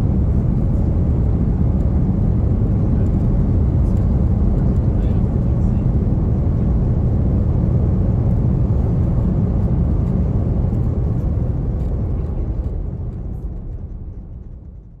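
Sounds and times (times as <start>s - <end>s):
airliner cabin rumble on runway: 0.0s - 15.0s.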